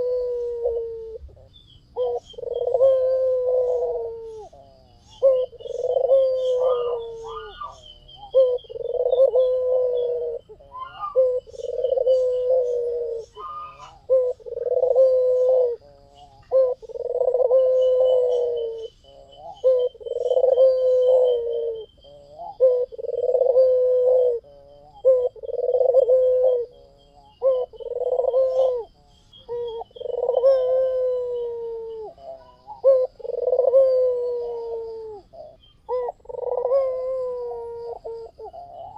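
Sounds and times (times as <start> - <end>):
dove cooing: 0.0 - 38.9
faint high chirping: 0.0 - 38.9.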